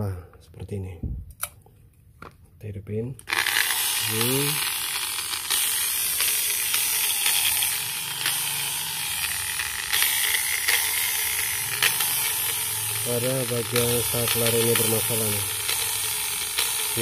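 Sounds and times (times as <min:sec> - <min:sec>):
angle grinder motor running: 0:03.2 - 0:17.0.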